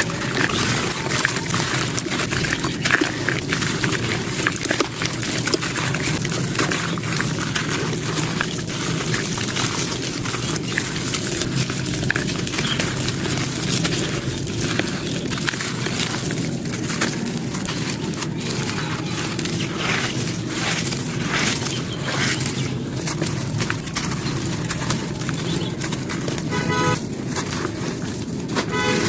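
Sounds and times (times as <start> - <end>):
sand-cement chunks crumbling by hand: 0.0 - 29.0.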